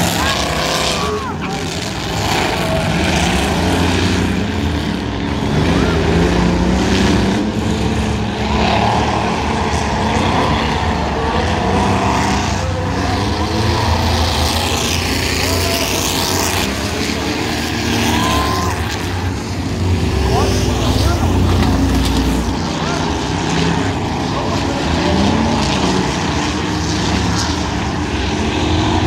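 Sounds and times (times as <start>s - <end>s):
crowd talking: 0.0s - 29.0s
truck engines revving: 0.0s - 29.0s.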